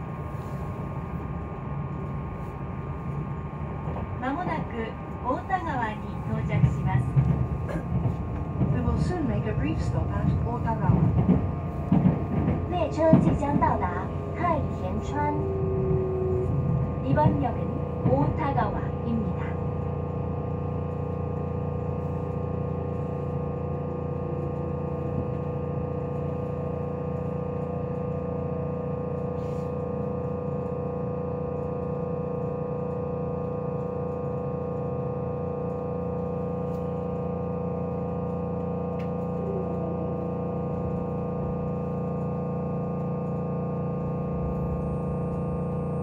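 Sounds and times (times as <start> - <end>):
electric train electrical hum: 0.0 - 46.0.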